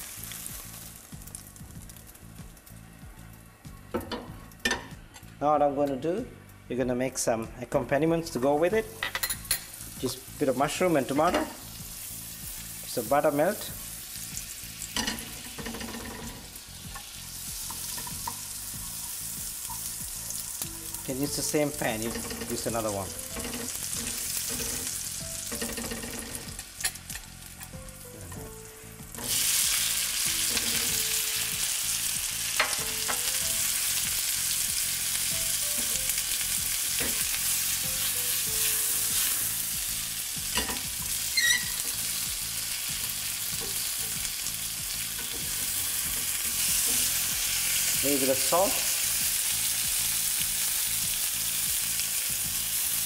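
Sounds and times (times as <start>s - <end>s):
vegetables sizzling in butter: 0.0s - 3.5s, 8.3s - 53.0s.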